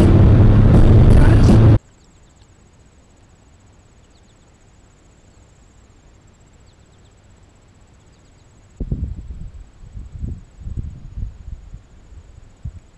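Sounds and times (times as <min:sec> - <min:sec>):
crickets trilling: 0:01.8 - 0:12.9.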